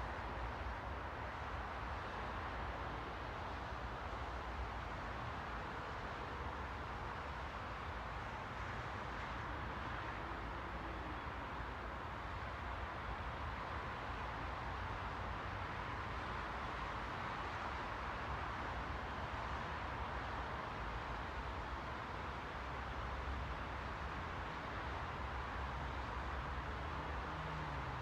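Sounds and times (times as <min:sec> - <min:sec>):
white-noise hiss: 0:00.0 - 0:28.0.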